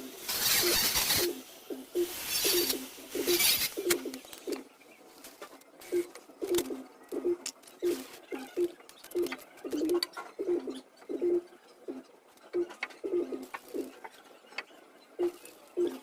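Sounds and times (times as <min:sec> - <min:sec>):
pigeons cooing: 0:00.0 - 0:04.7, 0:05.8 - 0:14.1, 0:15.2 - 0:16.0.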